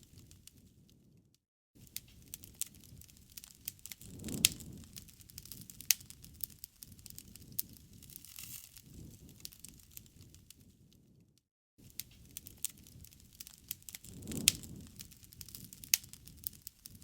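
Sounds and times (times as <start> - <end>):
campfire crackling: 1.8 - 10.8, 11.8 - 17.0
low rumble of flames: 1.8 - 11.3, 11.9 - 17.0.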